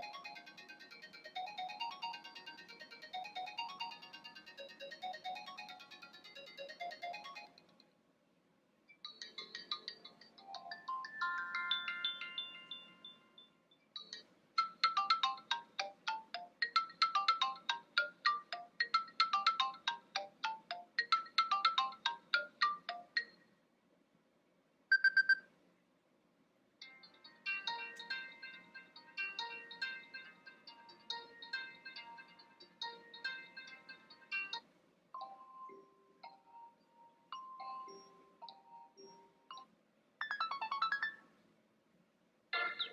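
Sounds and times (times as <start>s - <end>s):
electronic ringtone melodies: 0.0s - 7.6s, 9.0s - 23.4s, 26.8s - 34.6s, 35.2s - 41.2s.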